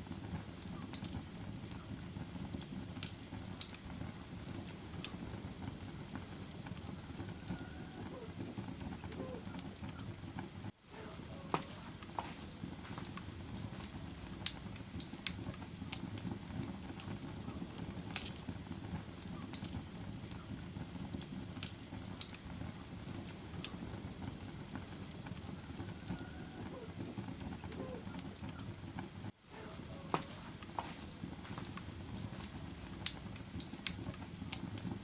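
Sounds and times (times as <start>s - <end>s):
fire crackles and pops: 0.0s - 35.0s
low rumble of flames: 0.0s - 35.0s.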